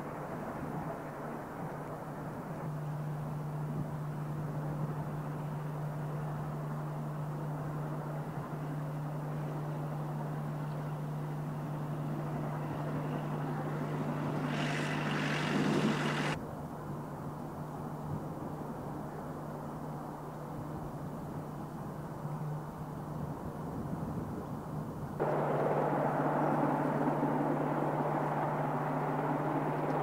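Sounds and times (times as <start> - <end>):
distant steam locomotive drone: 0.0 - 23.8, 25.0 - 30.0.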